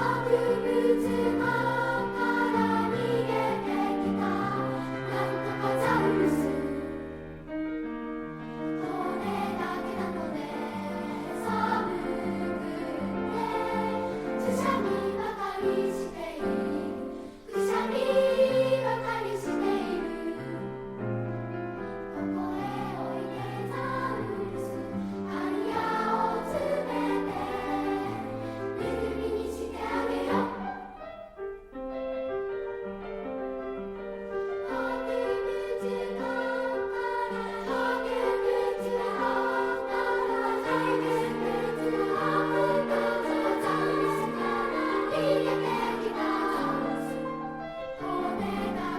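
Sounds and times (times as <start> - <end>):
children's choir singing: 0.0 - 7.6, 8.3 - 31.4, 34.2 - 48.9.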